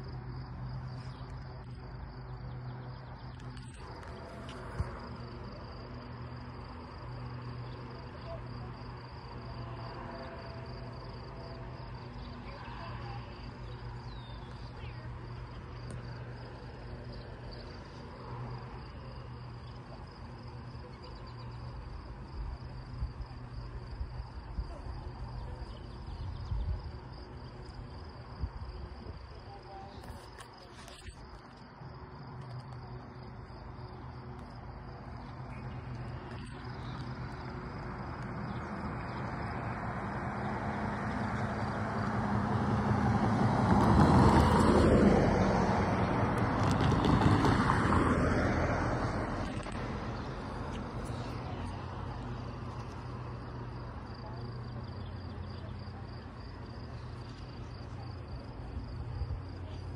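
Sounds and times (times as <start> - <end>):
crickets trilling: 0.0 - 59.9
road vehicle approaching: 0.0 - 59.9.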